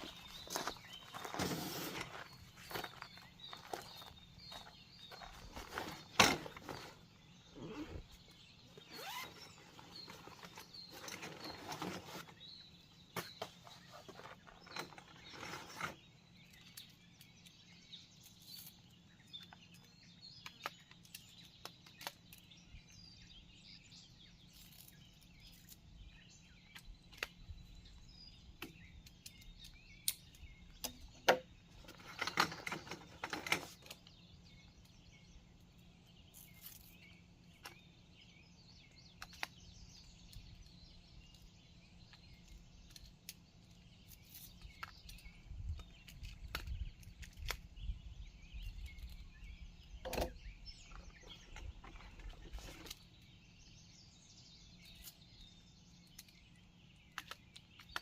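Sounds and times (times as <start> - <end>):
distant birds chirping: 0.0 - 58.0.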